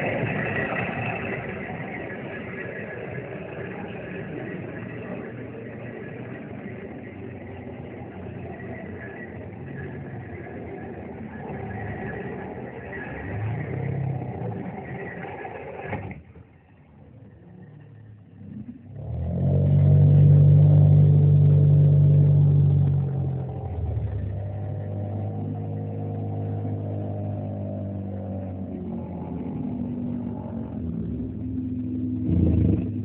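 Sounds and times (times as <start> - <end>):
vehicle motor running: 0.0 - 33.0.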